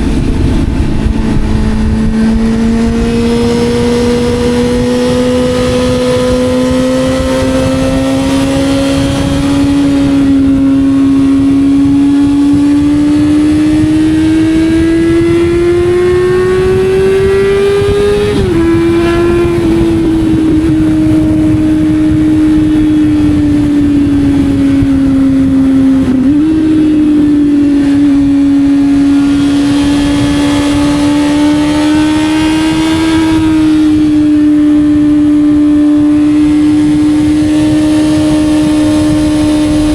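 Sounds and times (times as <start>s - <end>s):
low rushing noise: 0.0s - 39.9s
motorcycle engine running: 0.0s - 39.9s.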